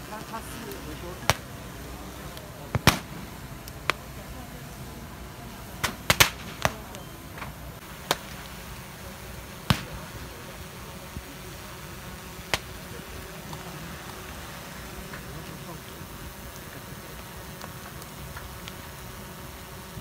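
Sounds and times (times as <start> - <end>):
crowd noise: 0.0 - 18.3
firecrackers banging: 0.0 - 20.0.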